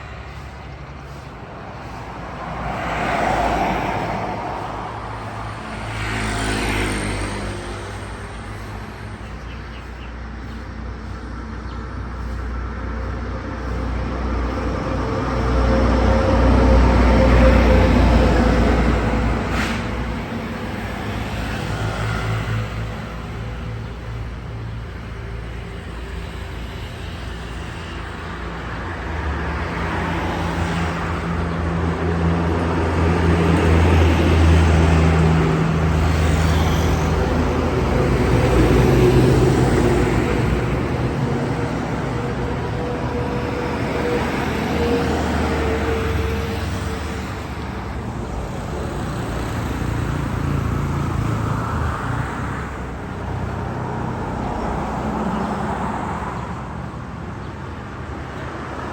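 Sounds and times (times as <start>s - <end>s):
vehicle engines passing: 0.0s - 58.9s.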